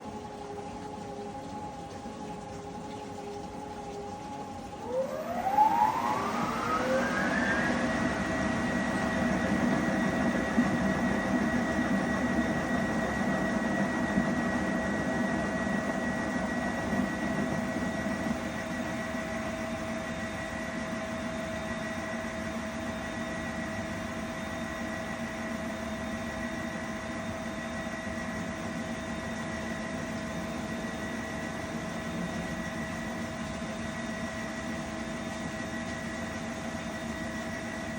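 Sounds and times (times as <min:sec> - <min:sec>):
washing machine spin whine: 0:00.0 - 0:37.9.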